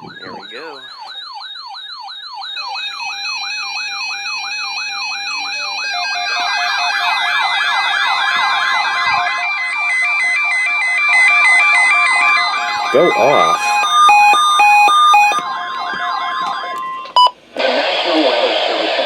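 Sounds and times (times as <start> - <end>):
siren-like alarm sweep: 0.0 - 17.3
two-note beeping alarm: 0.0 - 17.4
steady alarm tones: 0.0 - 17.5.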